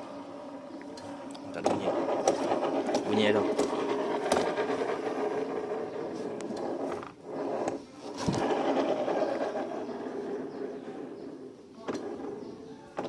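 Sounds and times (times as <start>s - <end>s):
scooter transmission grinding: 0.0s - 13.0s.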